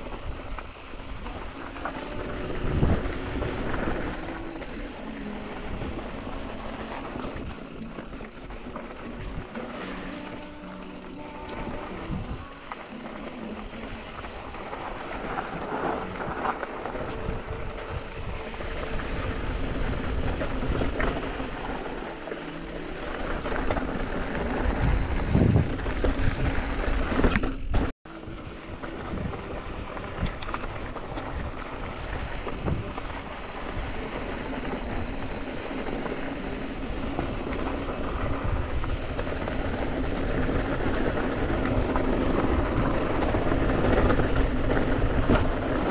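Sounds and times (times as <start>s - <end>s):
tyres crunching over gravel: 0.0s - 45.9s
wind across microphone: 0.0s - 45.9s.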